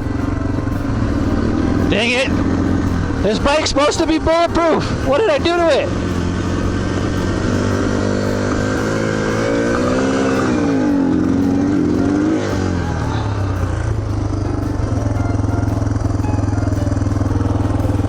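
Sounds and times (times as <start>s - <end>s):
motorcycle engine running roughly: 0.0s - 18.0s.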